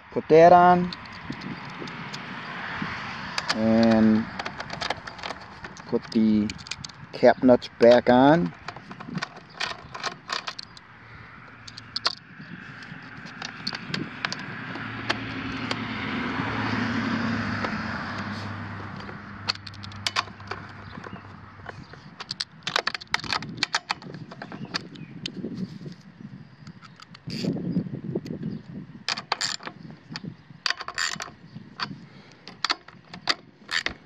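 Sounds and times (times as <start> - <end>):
passing motor vehicle hum: 0.0 - 34.0
socket tool clicking: 0.9 - 7.1, 7.8 - 25.4, 29.1 - 34.0.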